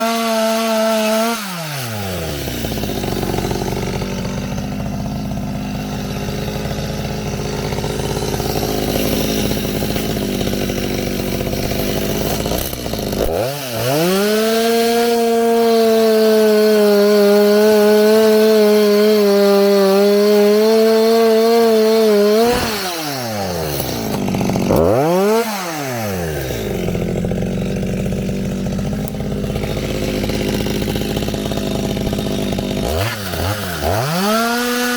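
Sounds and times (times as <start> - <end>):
chainsaw engine revving and idling: 0.0 - 34.9.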